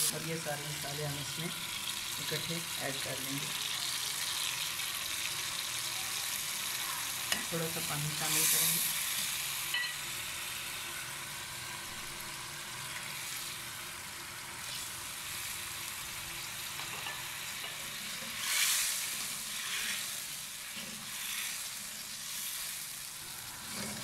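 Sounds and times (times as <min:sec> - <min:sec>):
paste sizzling in hot oil: 0:00.0 - 0:24.0.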